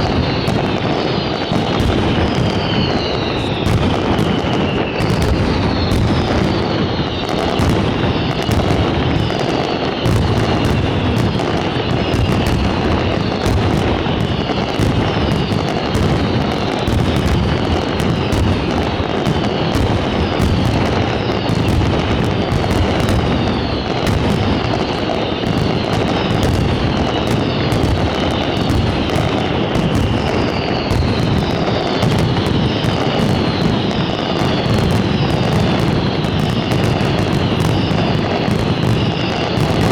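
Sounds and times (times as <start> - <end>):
fireworks bursts: 0.0 - 39.9
fireworks crackling: 0.0 - 39.9
whistling firework: 0.0 - 39.9.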